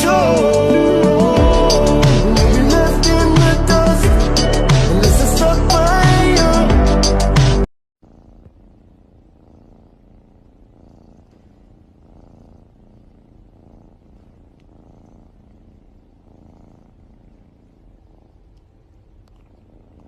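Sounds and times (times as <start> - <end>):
cat purring: 0.0 - 6.9, 8.0 - 20.0.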